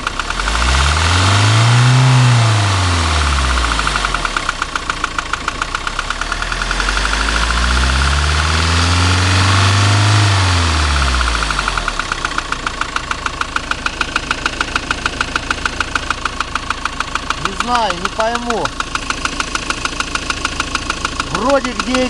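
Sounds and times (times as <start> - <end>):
diesel engine revving: 0.0 - 22.0
rhythmic engine knock: 0.0 - 22.0.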